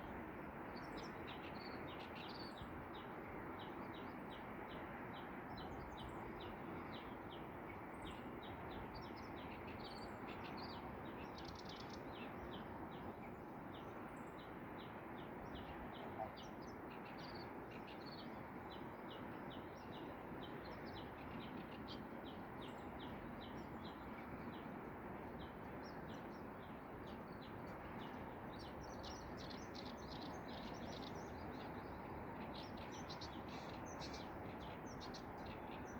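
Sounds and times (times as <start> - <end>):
birds singing: 0.8 - 35.9.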